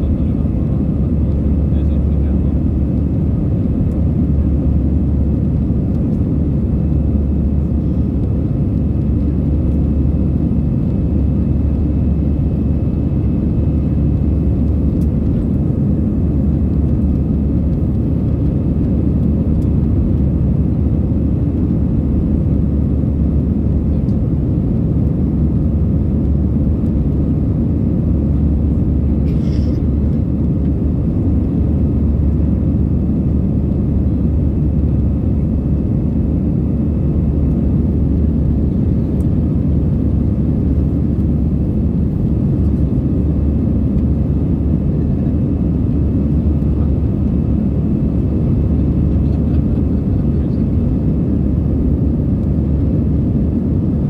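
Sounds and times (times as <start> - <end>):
jet engine and airflow rumble: 0.0 - 54.0.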